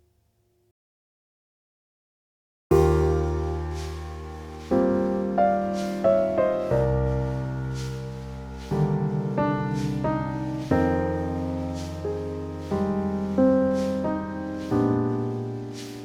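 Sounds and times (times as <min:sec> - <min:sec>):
slow gentle piano music: 0:02.7 - 0:16.0.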